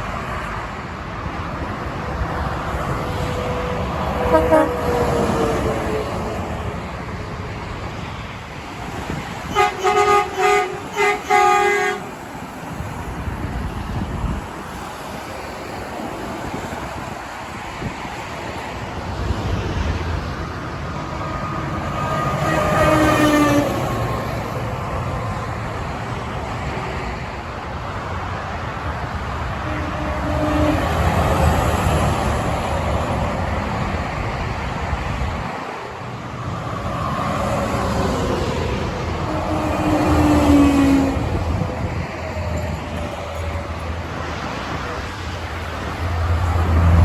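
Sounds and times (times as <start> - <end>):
trucks passing: 0.0 - 47.0.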